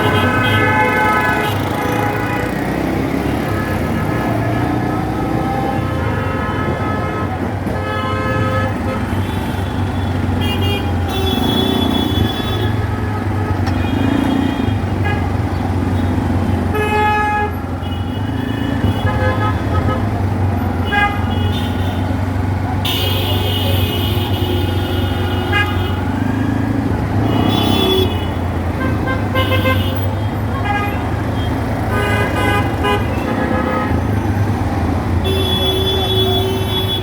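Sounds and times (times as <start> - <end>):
vehicle horns honking: 0.0 - 37.0.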